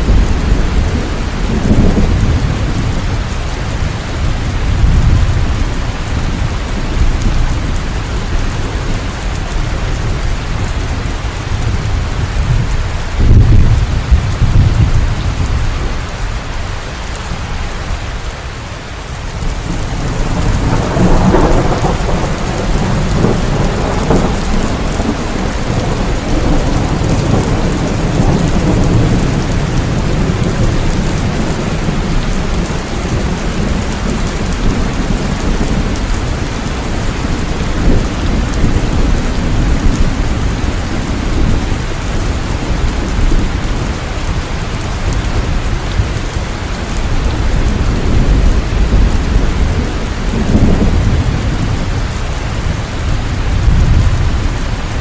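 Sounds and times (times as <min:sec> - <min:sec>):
rolling thunder: 0:00.0 - 0:16.2, 0:19.3 - 0:55.0
steady rain: 0:00.0 - 0:55.0.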